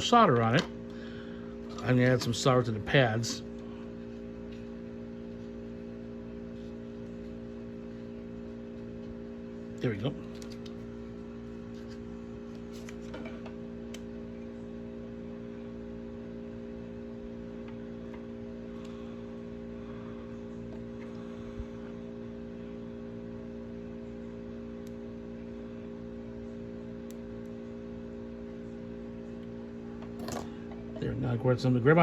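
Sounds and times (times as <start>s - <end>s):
steady electrical hum: 0.0s - 32.0s.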